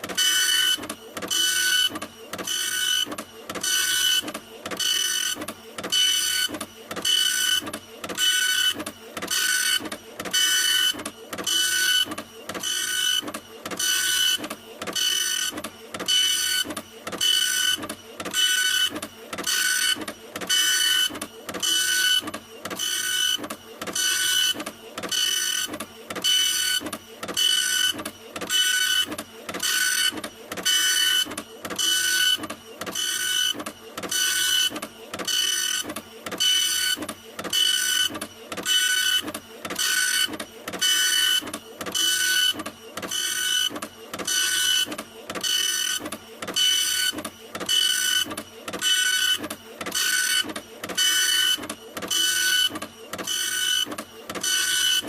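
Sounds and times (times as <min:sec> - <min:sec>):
printer head motor whining: 0:00.0 - 0:55.0.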